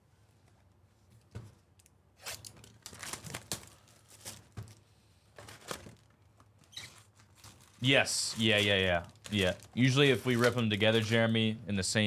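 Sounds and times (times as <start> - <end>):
shrink wrap crinkling: 1.8 - 11.4.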